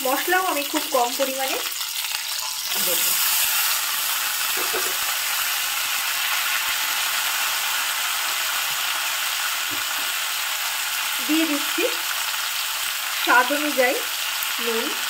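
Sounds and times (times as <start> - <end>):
vegetables frying in hot oil: 0.0 - 15.0.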